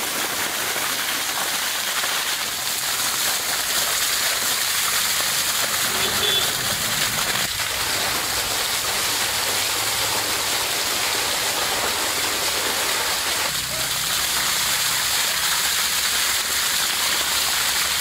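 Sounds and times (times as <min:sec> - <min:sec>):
water gushing and splashing: 0:00.0 - 0:18.0.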